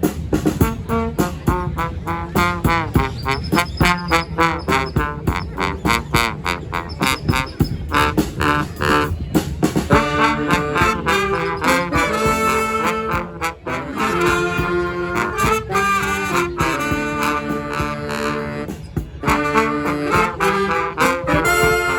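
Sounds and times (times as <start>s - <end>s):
brass band playing: 0.0s - 21.9s
percussive beat: 0.0s - 21.9s.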